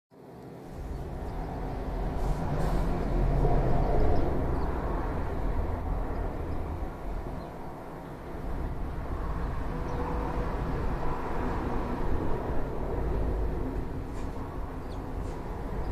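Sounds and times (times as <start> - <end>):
faint engine hum: 0.2 - 15.9
passing traffic rumble: 0.2 - 15.9.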